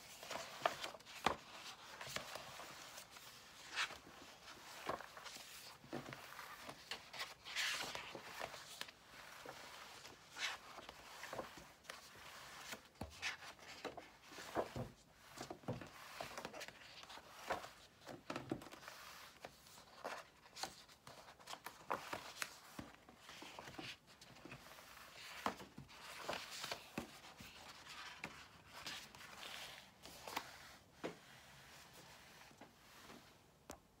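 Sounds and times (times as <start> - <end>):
paper pages being turned: 0.0 - 33.3.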